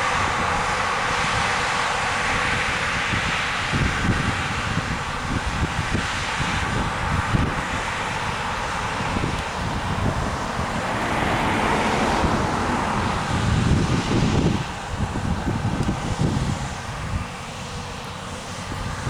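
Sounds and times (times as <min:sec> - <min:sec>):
combine harvester running: 0:00.0 - 0:19.0
wind buffeting microphone: 0:00.0 - 0:19.0.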